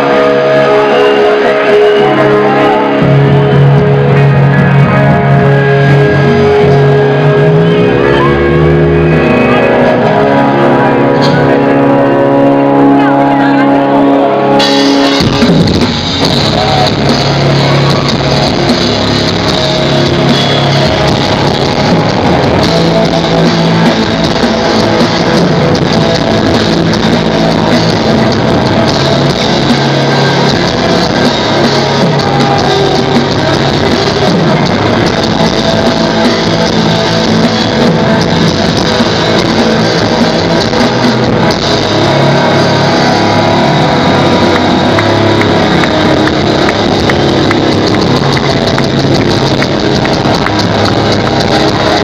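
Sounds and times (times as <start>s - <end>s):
bass guitar: 0.0s - 52.0s
drums: 0.0s - 52.0s
electric guitar: 0.0s - 52.0s.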